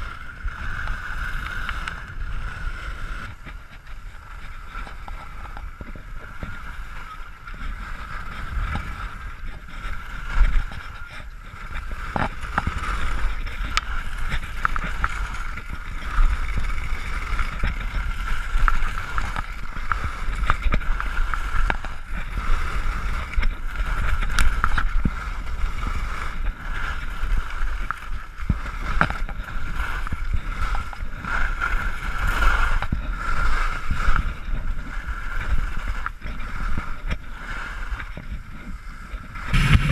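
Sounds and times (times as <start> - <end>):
skis scraping over packed snow: 0.0 - 39.9
wind rumbling on microphone: 0.0 - 39.9.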